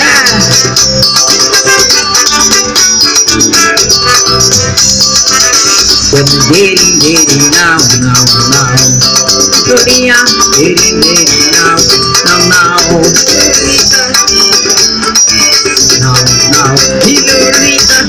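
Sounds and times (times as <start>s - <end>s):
electronic keyboard dance music: 0.0s - 18.0s.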